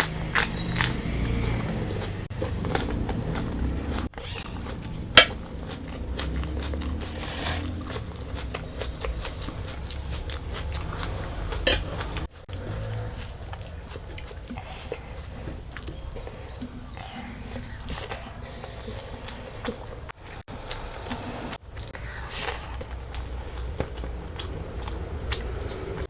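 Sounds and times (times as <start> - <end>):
chewing and biting: 0.0 - 26.0.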